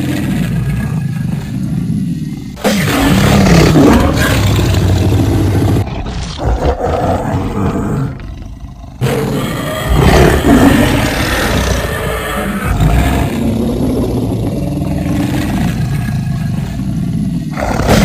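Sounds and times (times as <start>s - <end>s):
cartoon lion roar: 2.2s - 18.0s.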